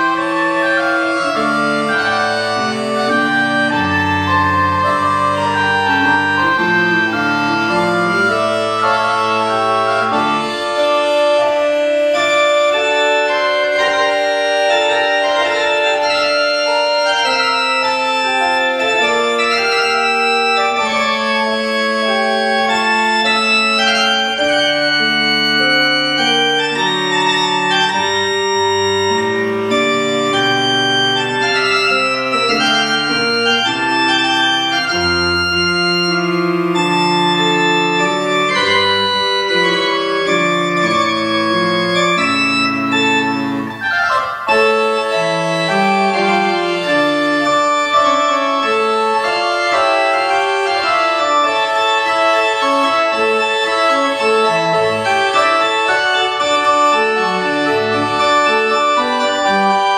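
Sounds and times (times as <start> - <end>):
low organ bass notes: 0.0 - 59.9
pipe organ reed stops playing: 0.0 - 59.9.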